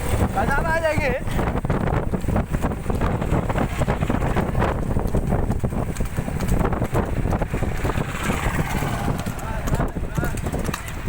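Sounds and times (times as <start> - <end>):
horse hooves clattering: 0.0 - 11.0
wind rumbling on microphone: 0.0 - 11.0.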